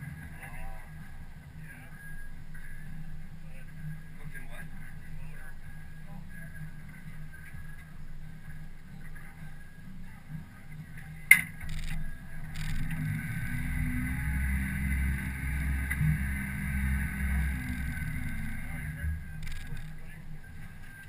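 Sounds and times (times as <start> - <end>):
outboard motor rumbling: 0.0 - 21.0.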